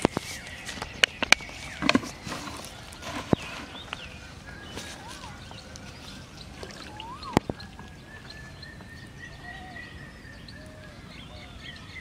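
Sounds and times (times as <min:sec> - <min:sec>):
bird chirps: 0:00.0 - 0:12.0
long thin bird whistle: 0:00.0 - 0:12.0.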